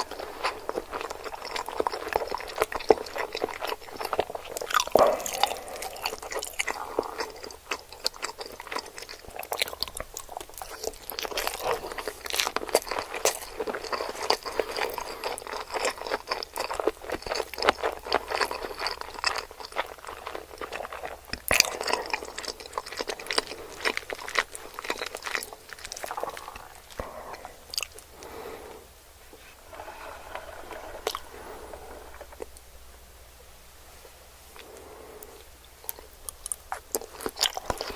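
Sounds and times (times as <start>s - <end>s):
person chewing with crunches: 0.0s - 32.7s, 34.0s - 37.9s.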